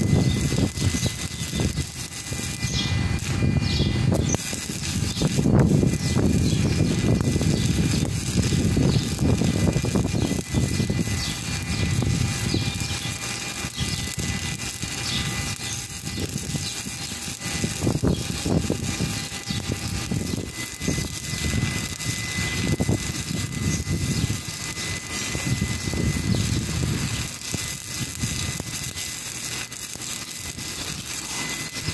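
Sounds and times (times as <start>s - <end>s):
low wavering rumble: 0.0s - 31.9s
welding arc crackling: 0.0s - 31.9s.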